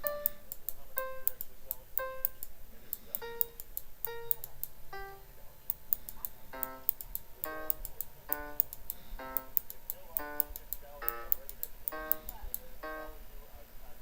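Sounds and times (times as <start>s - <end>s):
keyboard playing short notes: 0.0s - 5.6s, 6.5s - 13.5s
sharp high ticks: 0.0s - 13.2s.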